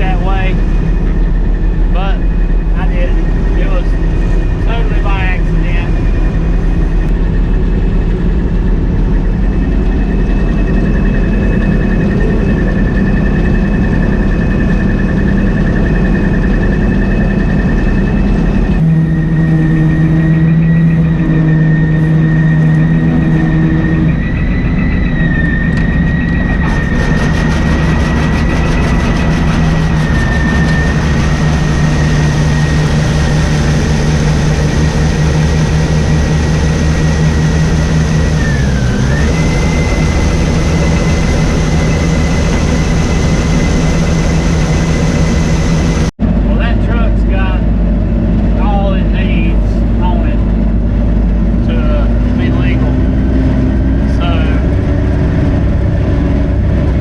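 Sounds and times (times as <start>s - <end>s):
combine harvester engine: 0.0s - 57.0s
high mechanical whine: 0.0s - 57.0s.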